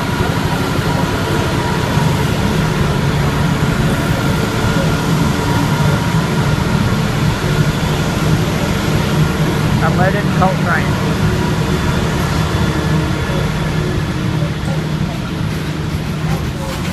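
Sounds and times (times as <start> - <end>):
diesel locomotives passing: 0.0 - 16.9.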